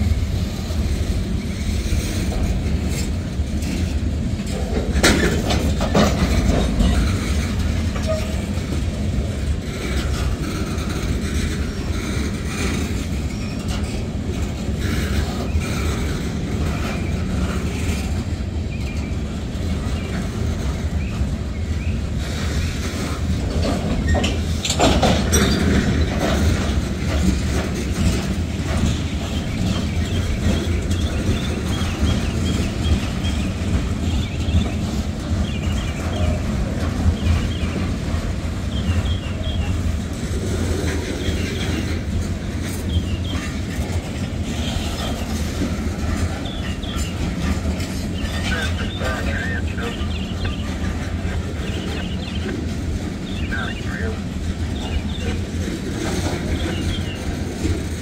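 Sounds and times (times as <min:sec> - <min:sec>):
freight train wheels rumbling: 0:00.0 - 0:58.0
wheels clanking over rail joints: 0:00.0 - 0:58.0.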